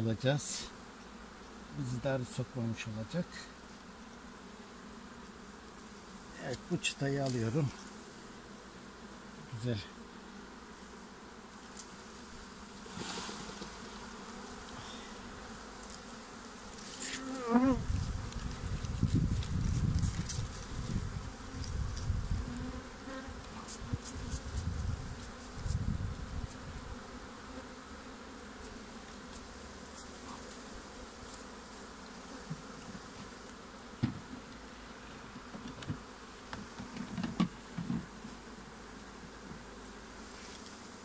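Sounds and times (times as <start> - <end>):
bees buzzing: 0.0 - 41.0.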